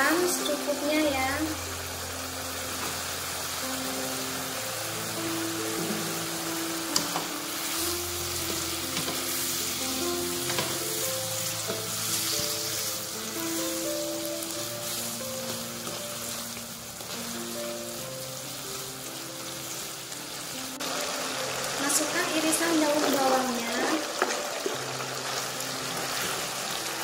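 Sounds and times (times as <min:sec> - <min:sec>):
background music: 0:00.0 - 0:27.0
food sizzling in a wok: 0:00.0 - 0:27.0.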